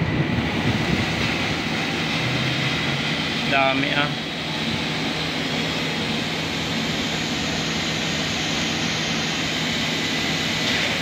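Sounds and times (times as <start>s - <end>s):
grain discharging machinery drone: 0.0s - 11.0s.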